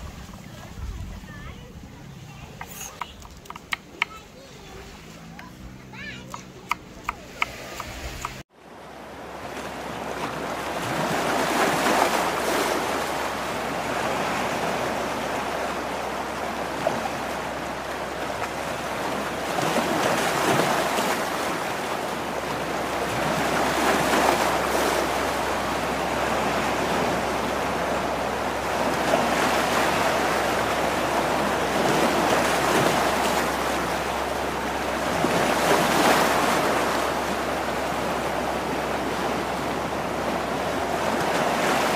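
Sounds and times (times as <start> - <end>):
sea waves on rocky shore: 0.0 - 41.9.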